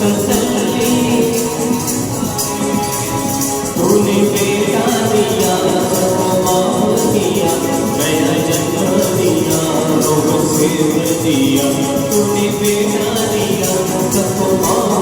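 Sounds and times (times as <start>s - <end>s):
keyboard melody over beat: 0.0s - 15.0s
tambourine jingles: 0.0s - 15.0s.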